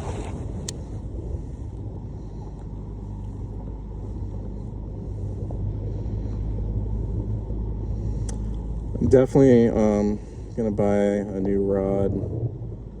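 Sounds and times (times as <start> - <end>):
engine running rumble: 0.0 - 13.0.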